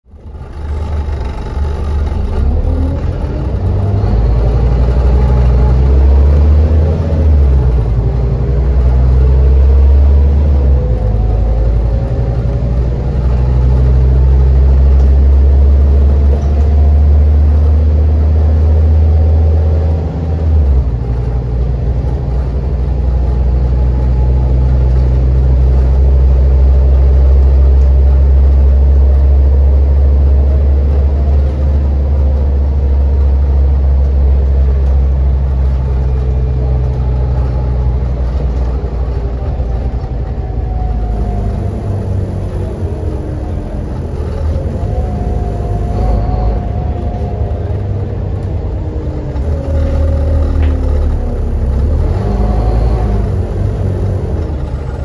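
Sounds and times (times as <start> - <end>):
bus engine drone: 0.0 - 55.0
gearbox whine: 0.1 - 55.0.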